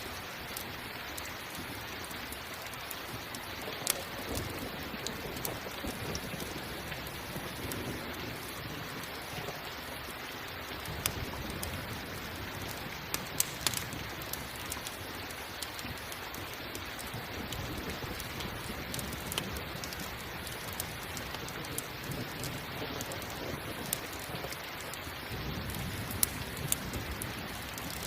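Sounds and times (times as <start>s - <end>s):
campfire crackling and popping: 0.0s - 28.0s
steady rain: 0.0s - 28.0s.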